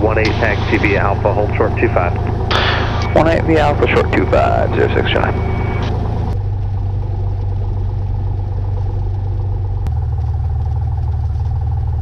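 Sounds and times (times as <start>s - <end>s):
piston aircraft engine droning: 0.0s - 12.0s.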